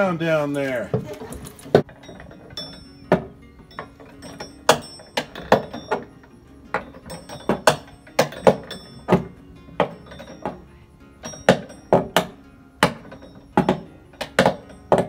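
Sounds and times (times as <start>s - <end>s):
swing chains clanking: 0.0s - 15.0s
sharp metallic knocks: 1.7s - 15.0s.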